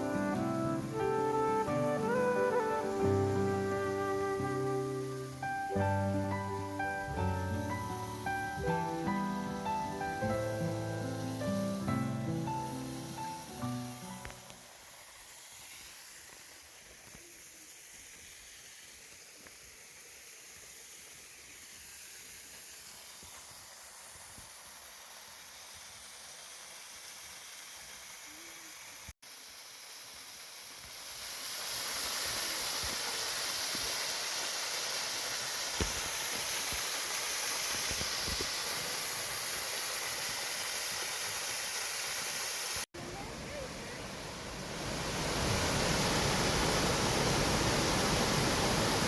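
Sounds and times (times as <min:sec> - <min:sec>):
waterfall rushing hiss: 0:00.0 - 0:49.0.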